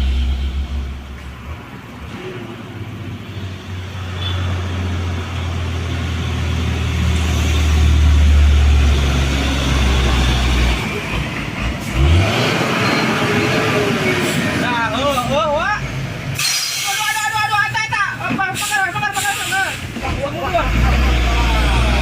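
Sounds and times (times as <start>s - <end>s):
truck diesel engine labouring: 0.0s - 22.0s.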